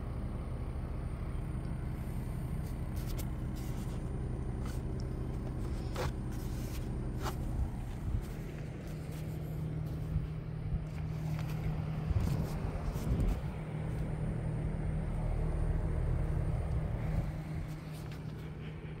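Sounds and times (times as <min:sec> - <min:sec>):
heat pump unit humming: 0:00.0 - 0:19.0.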